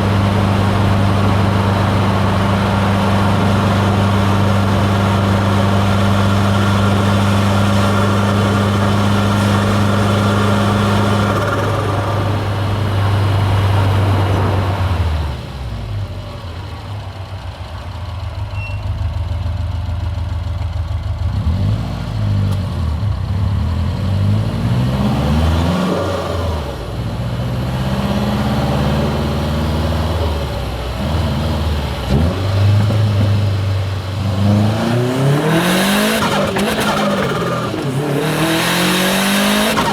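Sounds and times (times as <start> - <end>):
turbocharged car engine revving: 0.0 - 15.6, 21.2 - 39.9.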